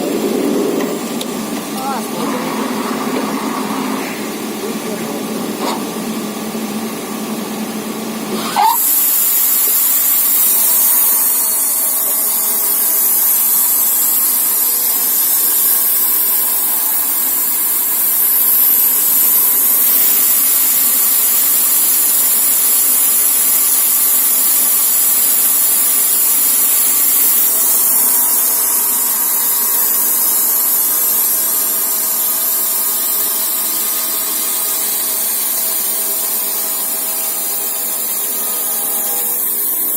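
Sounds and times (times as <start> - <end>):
band saw cutting log: 0.0 - 6.0, 8.3 - 39.9.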